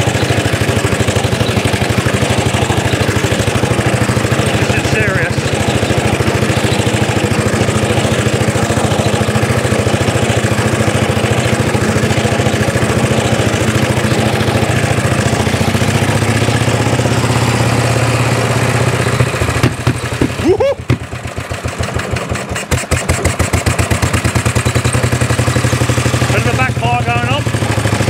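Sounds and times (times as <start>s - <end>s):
mower petrol engine chugging: 0.0s - 28.0s.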